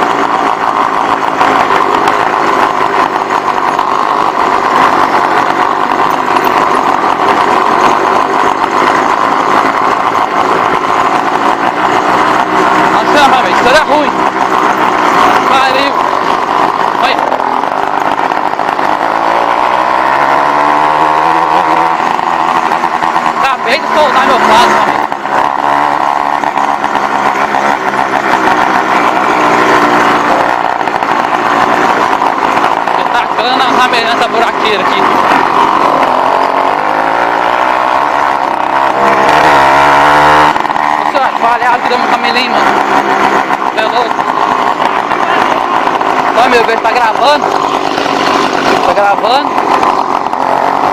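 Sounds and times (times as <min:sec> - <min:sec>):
small engine buzzing drone: 0:00.0 - 0:50.9.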